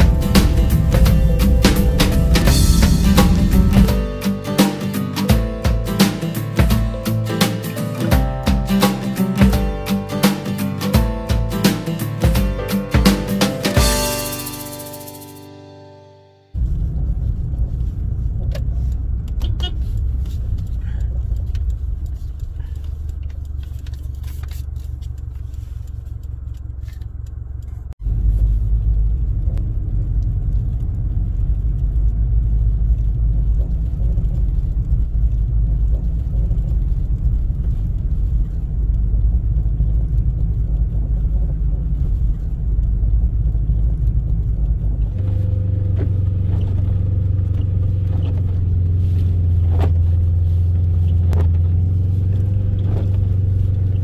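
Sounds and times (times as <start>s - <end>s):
vehicle engine rumble: 0.0s - 15.0s, 16.5s - 54.0s.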